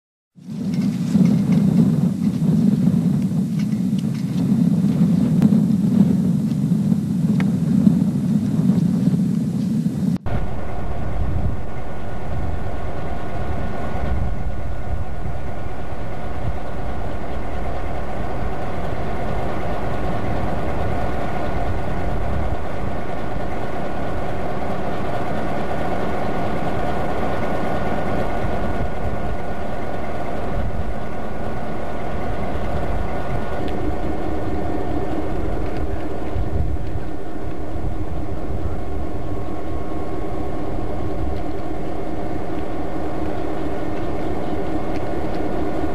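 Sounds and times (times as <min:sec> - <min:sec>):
diesel locomotive engines droning: 0:00.4 - 0:45.9
faint steady whine: 0:00.4 - 0:45.9.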